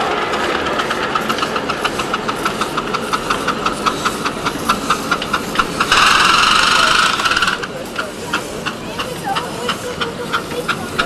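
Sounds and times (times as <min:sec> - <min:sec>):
miniature steam locomotive chuffing: 0:00.0 - 0:11.0.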